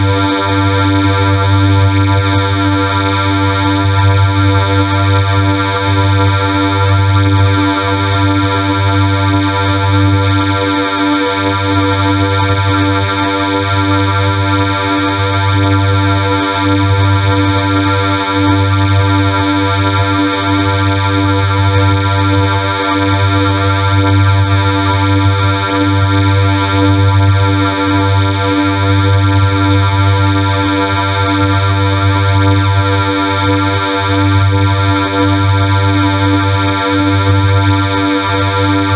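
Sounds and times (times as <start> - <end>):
harsh synthesized drone: 0.0 - 38.9.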